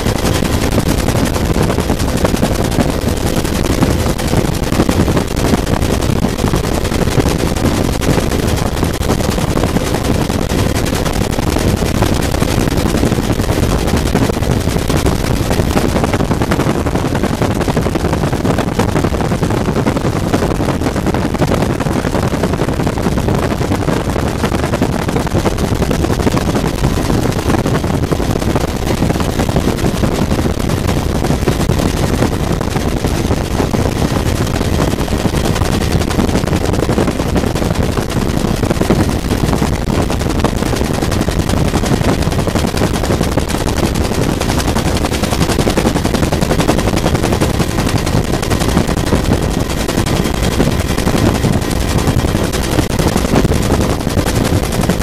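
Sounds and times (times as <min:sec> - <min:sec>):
helicopter rotor and turbine noise: 0:00.0 - 0:55.0.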